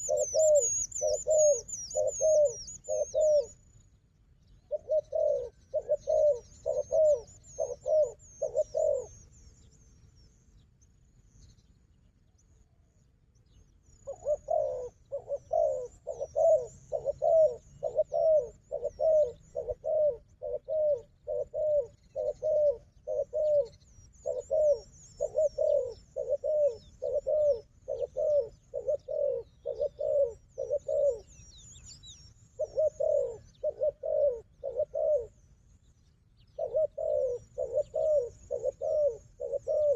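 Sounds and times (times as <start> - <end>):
dove cooing: 0.0 - 3.6, 4.6 - 9.3, 14.0 - 35.6, 36.4 - 39.9
small birds chirping: 0.0 - 39.9.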